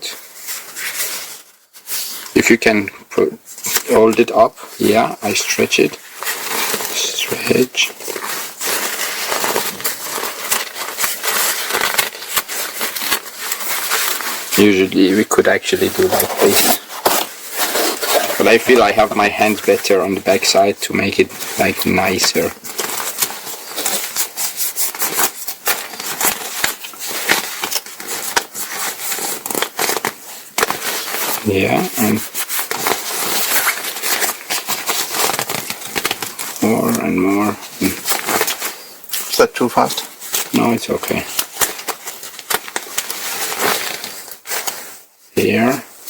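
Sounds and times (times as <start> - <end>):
nylon fabric crinkling and rustling: 0.0 - 46.0.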